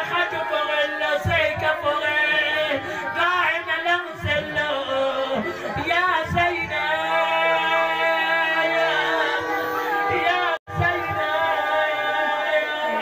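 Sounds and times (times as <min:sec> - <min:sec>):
man chanting into a microphone: 0:00.0 - 0:09.4, 0:10.0 - 0:13.0.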